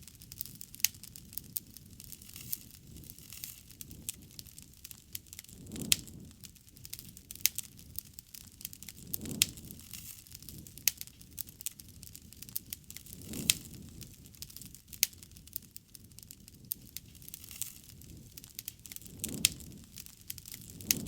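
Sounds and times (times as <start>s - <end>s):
low rush of burning: 0.0s - 21.0s
wood fire crackling and popping: 0.0s - 21.0s.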